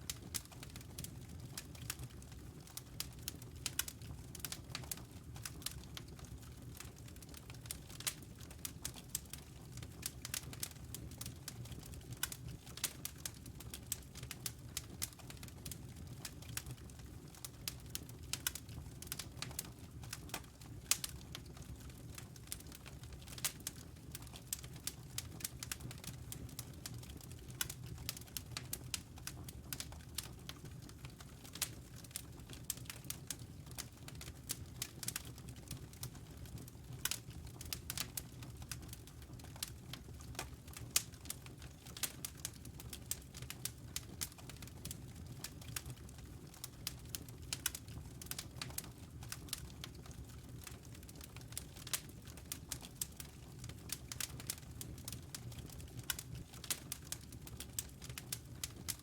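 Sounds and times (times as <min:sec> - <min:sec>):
low rumble of burning logs: 0:00.0 - 0:59.0
wood fire crackling: 0:00.0 - 0:59.0.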